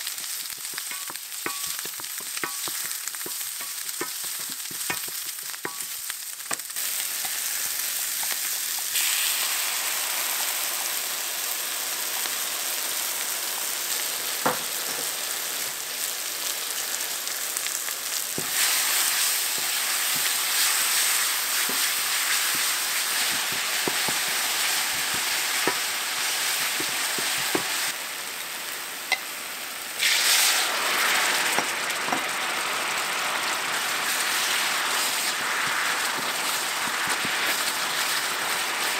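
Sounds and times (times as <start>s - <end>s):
onion sizzling in hot oil: 0.0s - 38.9s
water hissing in hot pan: 0.0s - 38.9s.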